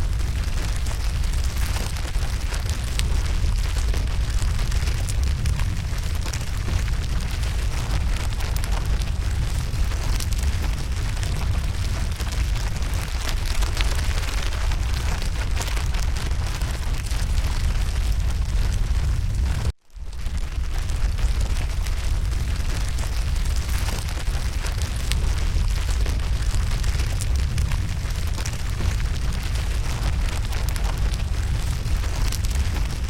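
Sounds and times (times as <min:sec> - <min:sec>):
burning wood crackling: 0:00.0 - 0:33.0
low rumble of flames: 0:00.0 - 0:33.0.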